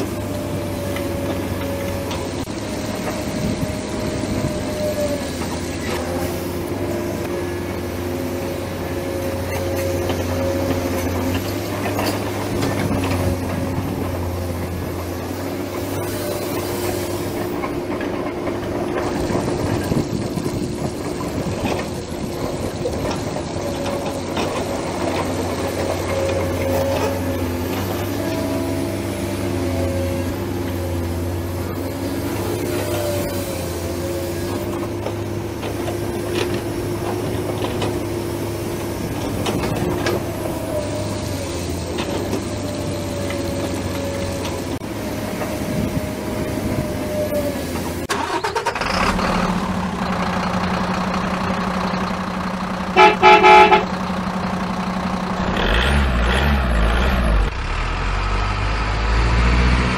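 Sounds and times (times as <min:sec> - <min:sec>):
model excavator motor drone: 0:00.0 - 0:59.9.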